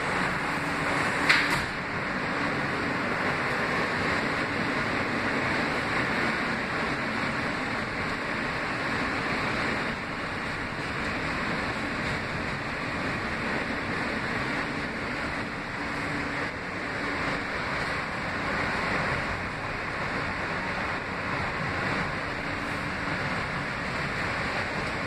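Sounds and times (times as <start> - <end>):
subway car wheels on rails: 0.0 - 25.0.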